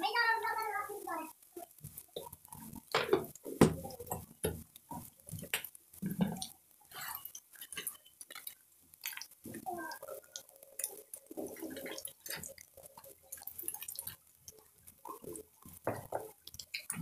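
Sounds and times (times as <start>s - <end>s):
crackles and pops of frying: 0.0s - 17.0s.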